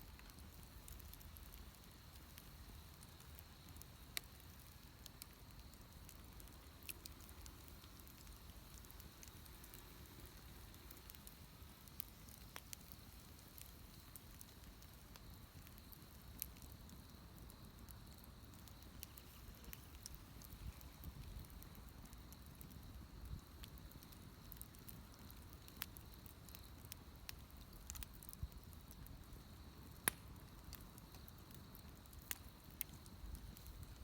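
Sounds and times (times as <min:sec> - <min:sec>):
bonfire crackling and hissing: 0:00.0 - 0:34.0
sharp fire pops: 0:00.0 - 0:34.0.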